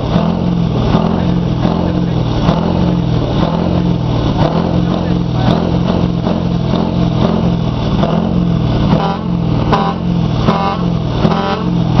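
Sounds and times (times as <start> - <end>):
engine running deep and even: 0.0 - 12.0.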